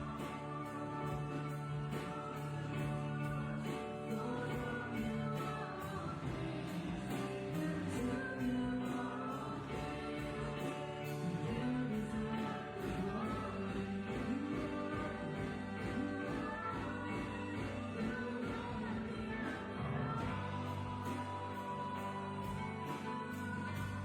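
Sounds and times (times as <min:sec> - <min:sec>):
group singing worship song: 0:00.0 - 0:24.0.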